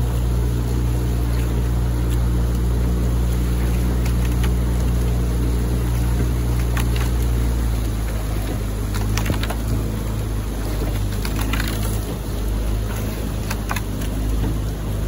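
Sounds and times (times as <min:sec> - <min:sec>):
oar clicks and splashes: 0:00.0 - 0:15.0
outboard motor droning: 0:00.0 - 0:15.0.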